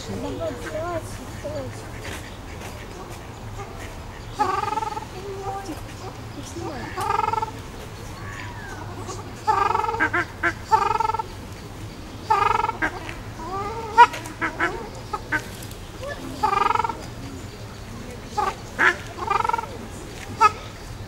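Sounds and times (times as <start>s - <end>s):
ducks honking: 0.0s - 17.5s, 18.2s - 21.0s.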